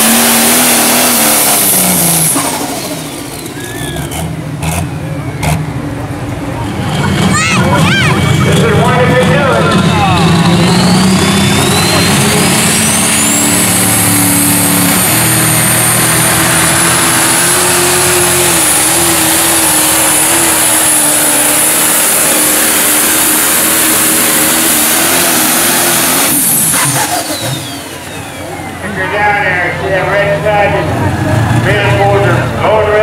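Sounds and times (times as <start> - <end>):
diesel engine at full throttle: 0.0 - 33.0
high turbo whine: 0.0 - 33.0.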